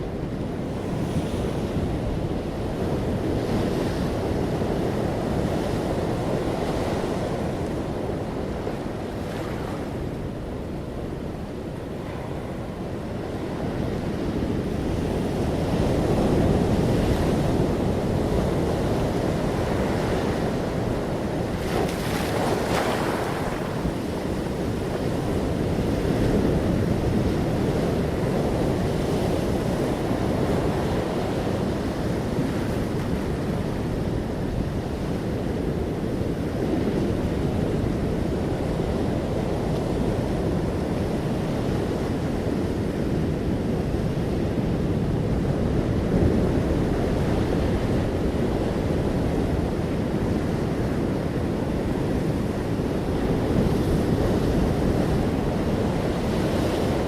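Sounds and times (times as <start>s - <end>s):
sea waves washing onto shore: 0.0s - 57.0s
wind noise on microphone: 0.0s - 57.0s.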